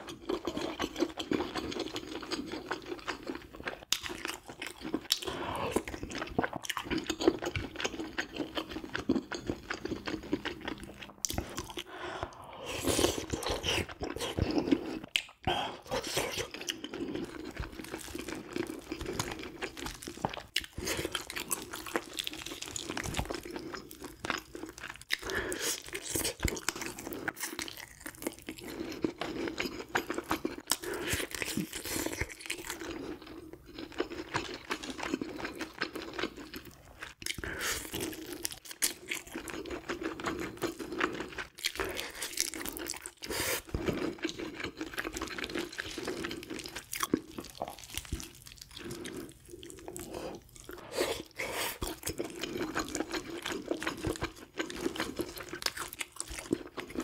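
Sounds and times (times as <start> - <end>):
person chewing crunchy fish: 0.0 - 57.0.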